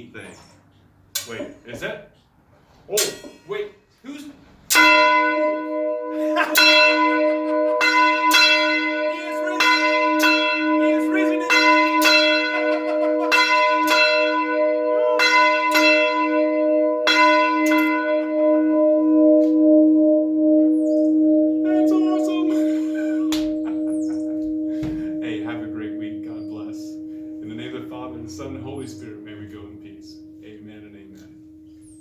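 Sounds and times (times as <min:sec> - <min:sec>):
church bell ringing: 0:04.7 - 0:32.0.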